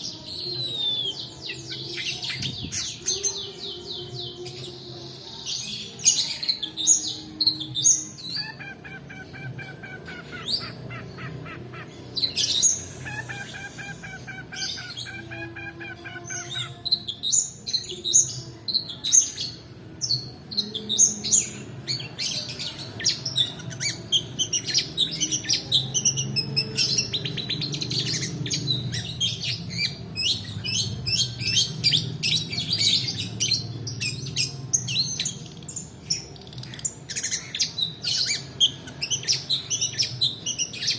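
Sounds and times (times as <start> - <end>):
bird singing with rolling trills: 0.0 - 40.9.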